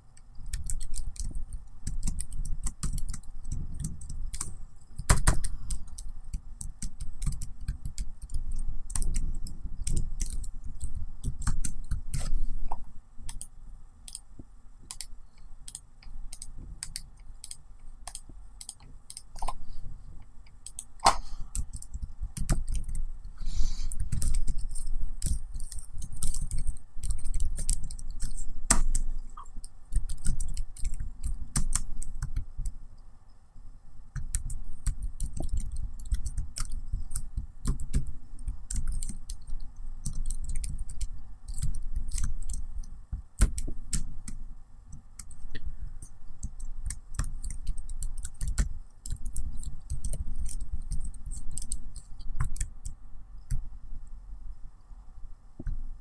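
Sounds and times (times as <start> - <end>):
laptop keyboard typing: 0.0 - 19.6, 20.4 - 32.8, 34.1 - 53.7.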